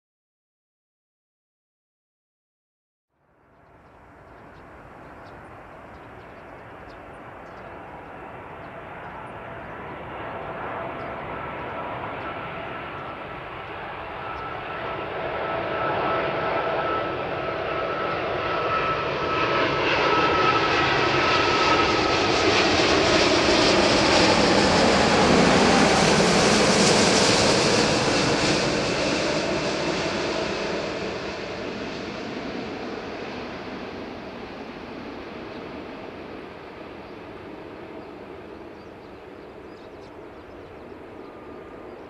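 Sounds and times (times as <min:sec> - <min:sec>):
jet airliner passing overhead: 0:03.6 - 0:42.0.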